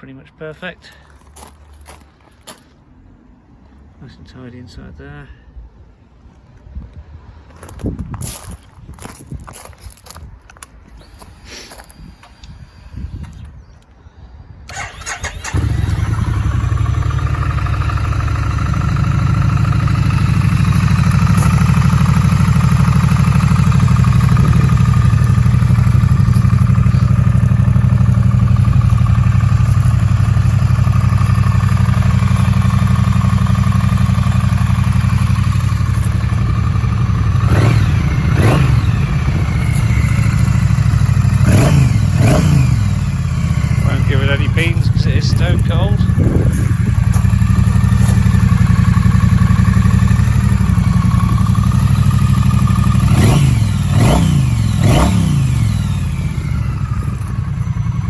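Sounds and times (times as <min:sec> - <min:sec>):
motorcycle engine starting and idling: 0:10.5 - 0:14.0, 0:14.6 - 0:58.0.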